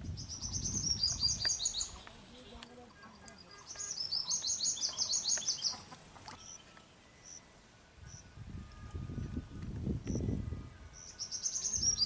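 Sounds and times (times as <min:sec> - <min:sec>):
bird chirping: 0:00.0 - 0:09.5, 0:10.1 - 0:12.0.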